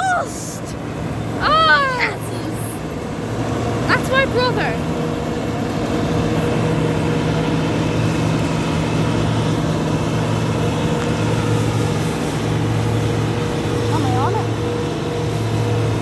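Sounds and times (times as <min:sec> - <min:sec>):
combine harvester engine and threshing: 0:00.0 - 0:16.0.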